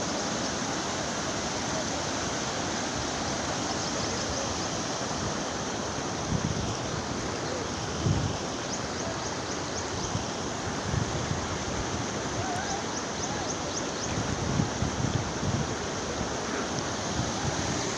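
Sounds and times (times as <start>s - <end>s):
stream water rushing: 0.0s - 17.9s.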